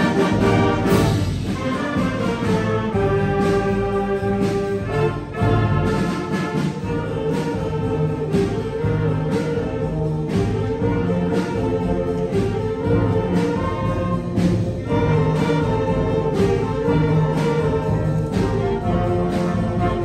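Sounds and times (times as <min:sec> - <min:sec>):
percussion strokes: 0:00.0 - 0:20.0
wind and brass chords: 0:00.0 - 0:20.0.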